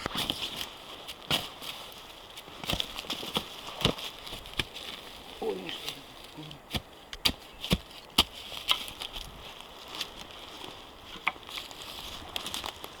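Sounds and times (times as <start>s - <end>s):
footsteps on forest floor: 0.0s - 13.0s
twigs snapping underfoot: 0.0s - 13.0s.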